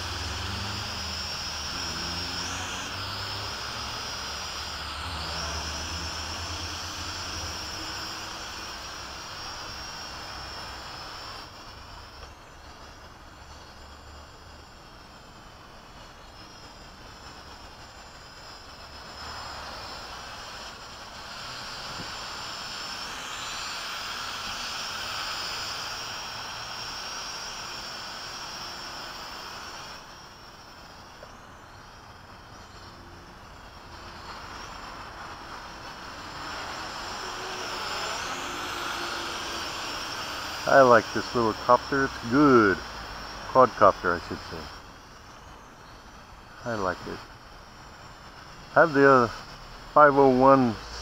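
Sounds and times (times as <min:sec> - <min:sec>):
quadcopter propellers whining: 0:00.0 - 0:51.0.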